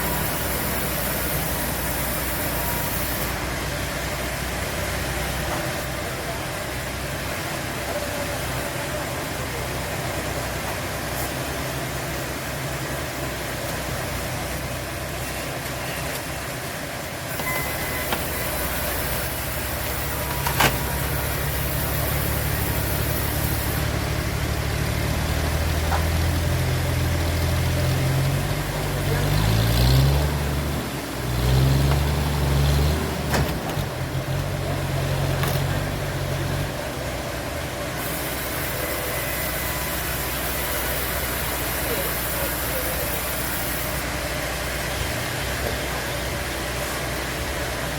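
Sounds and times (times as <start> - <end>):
engine humming: 0.0 - 47.9.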